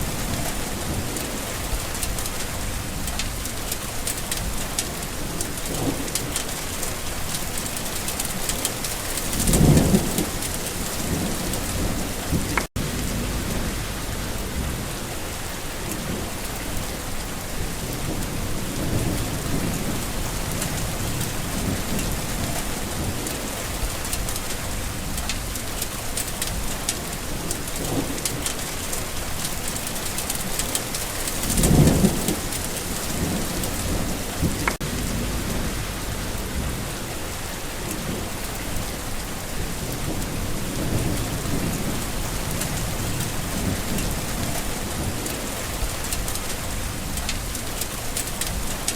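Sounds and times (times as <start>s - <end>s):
rolling thunder: 0.0s - 25.8s, 26.4s - 48.9s
heavy rain falling: 0.0s - 48.9s.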